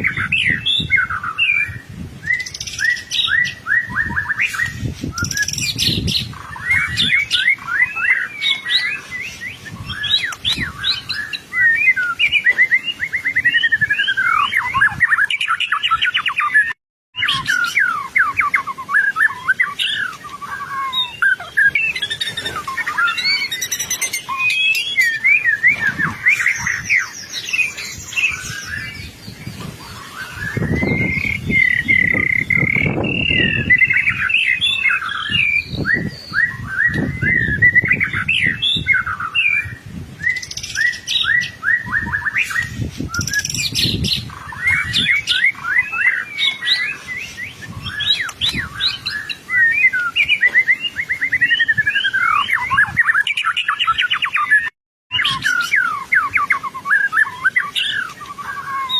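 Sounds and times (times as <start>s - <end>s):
bird singing whistled phrases: 0.0s - 58.9s.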